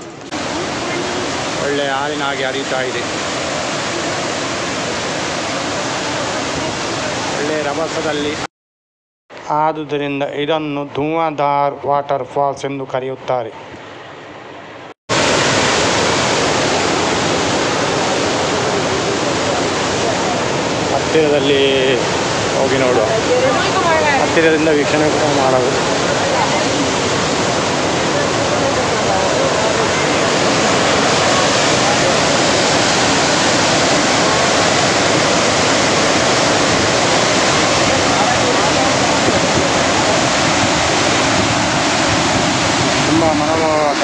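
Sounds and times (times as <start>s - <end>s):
waterfall rushing: 0.0s - 8.5s, 15.1s - 44.0s.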